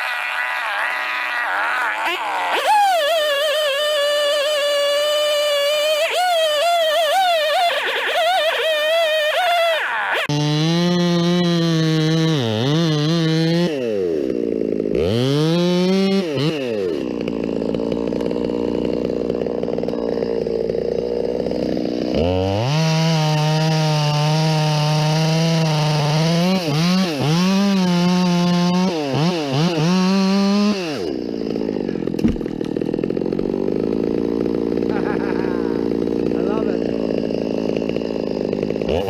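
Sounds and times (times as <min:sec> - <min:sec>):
chainsaw revving and idling: 0:00.0 - 0:39.0.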